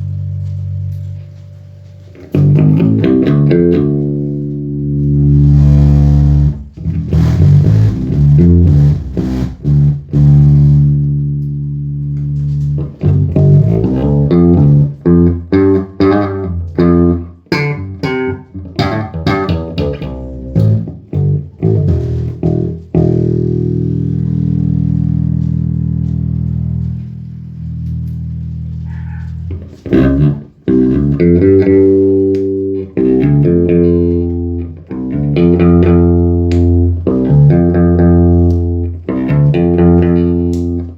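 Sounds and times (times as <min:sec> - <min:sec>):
electric bass playing: 0:00.0 - 0:40.9.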